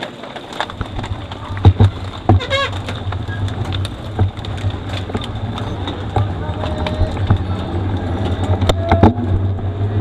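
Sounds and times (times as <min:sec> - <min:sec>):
mountain bike rattling clicks: 0:00.0 - 0:08.9.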